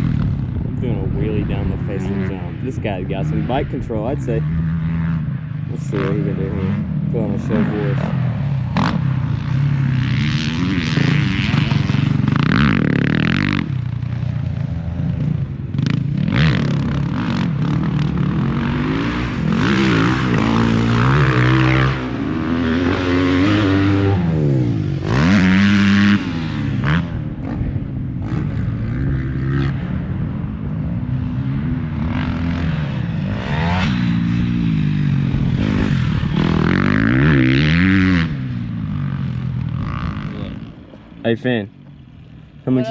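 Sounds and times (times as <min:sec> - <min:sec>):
dirt bike engines revving: 0:00.0 - 0:42.9.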